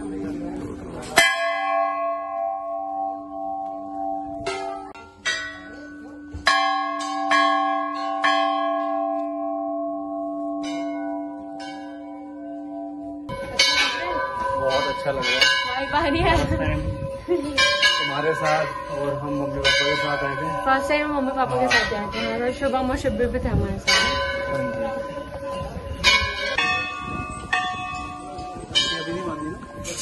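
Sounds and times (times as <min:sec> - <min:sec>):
brass bells ringing: 0:00.0 - 0:30.0.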